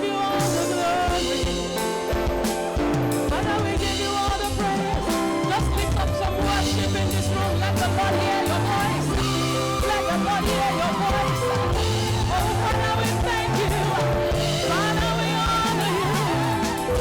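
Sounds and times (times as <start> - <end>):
person singing: 0.0 - 17.0
worship band playing: 0.0 - 17.0.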